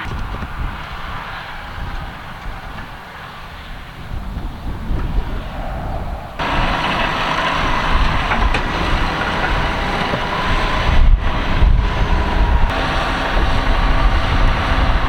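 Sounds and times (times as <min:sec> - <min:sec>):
tractor engines and harvesting machinery: 0:00.0 - 0:15.0.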